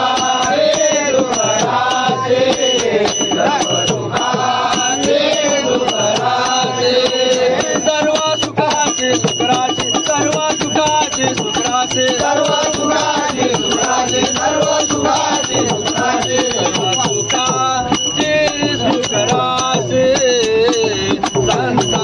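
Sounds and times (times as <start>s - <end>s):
group singing devotional song: 0.0s - 22.0s
steady percussion beat: 0.0s - 22.0s.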